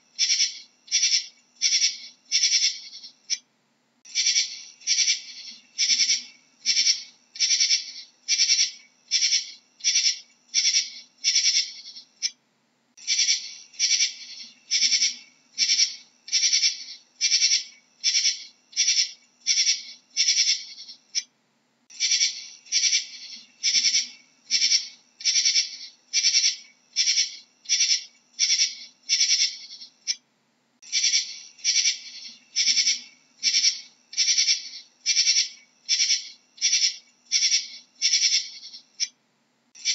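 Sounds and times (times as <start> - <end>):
katydid chirping: 0.0 - 3.4, 4.1 - 12.4, 13.0 - 21.3, 21.9 - 30.2, 30.8 - 39.1.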